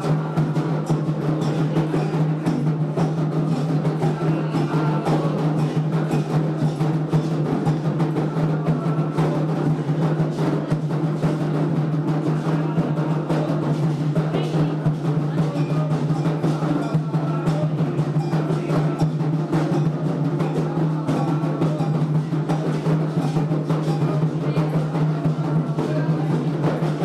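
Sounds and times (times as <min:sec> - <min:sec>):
hand drums playing rhythm: 0:00.0 - 0:27.0.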